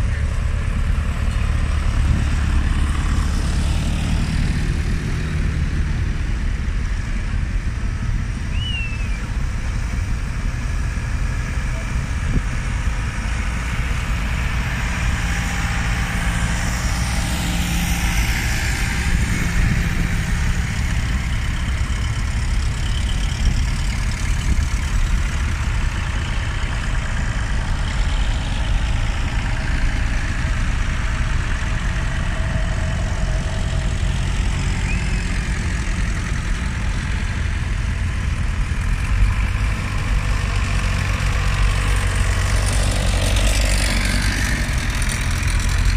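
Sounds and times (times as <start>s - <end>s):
tractor engines running: 0.0s - 45.9s.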